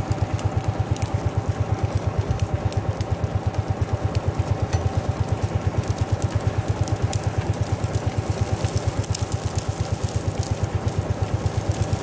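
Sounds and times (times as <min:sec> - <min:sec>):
single-cylinder engine running: 0:00.0 - 0:12.0.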